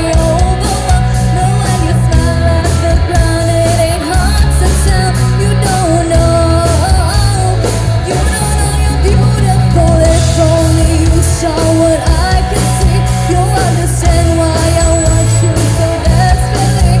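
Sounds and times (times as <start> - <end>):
person singing: 0.0 - 17.0
pop-rock backing music: 0.0 - 17.0.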